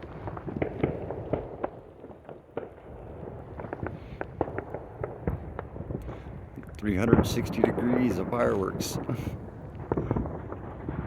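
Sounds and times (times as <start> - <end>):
distant fireworks popping: 0.0 - 11.0.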